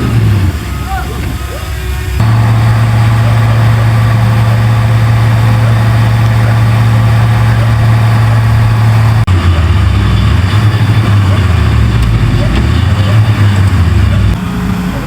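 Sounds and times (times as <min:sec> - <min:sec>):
bulldozer diesel engine drone: 0:00.0 - 0:15.0.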